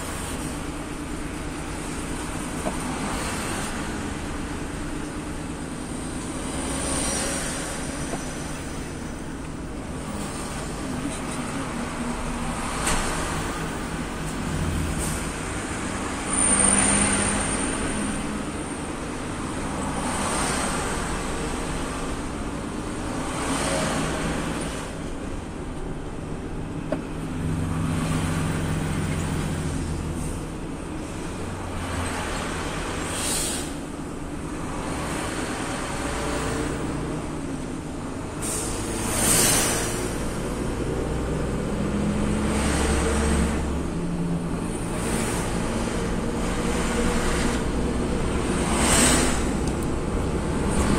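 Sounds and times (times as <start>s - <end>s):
lorries rushing past: 0.0s - 50.9s.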